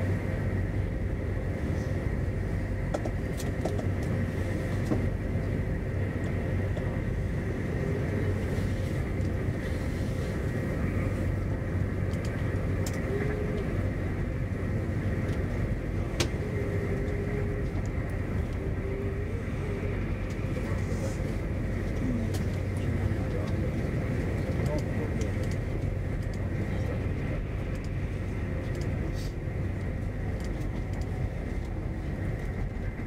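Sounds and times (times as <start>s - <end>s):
train interior rumble and hum: 0.0s - 33.0s.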